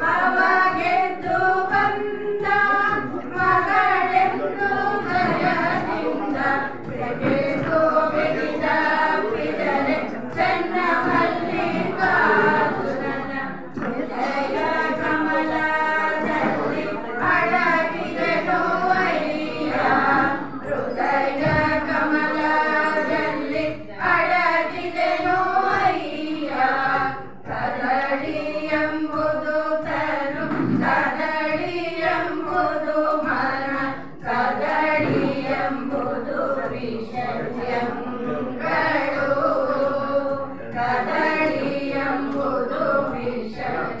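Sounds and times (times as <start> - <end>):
women singing together: 0.0 - 44.0.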